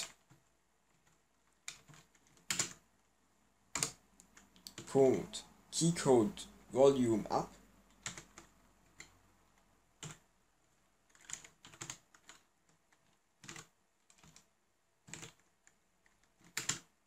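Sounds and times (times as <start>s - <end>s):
faint keyboard typing: 0.0s - 3.1s, 3.7s - 5.0s, 7.8s - 17.0s.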